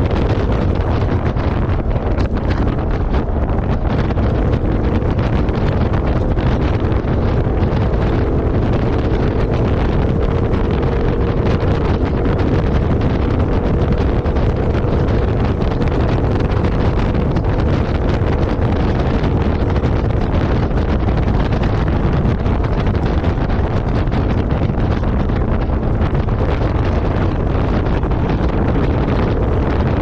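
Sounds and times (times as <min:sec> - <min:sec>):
vehicle running: 0:00.0 - 0:30.0
wind buffeting the microphone: 0:00.0 - 0:30.0.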